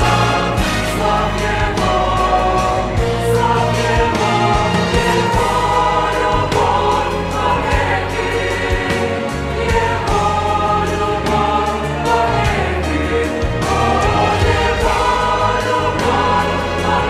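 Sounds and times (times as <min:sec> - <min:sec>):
youth choir singing a hymn: 0:00.0 - 0:17.0.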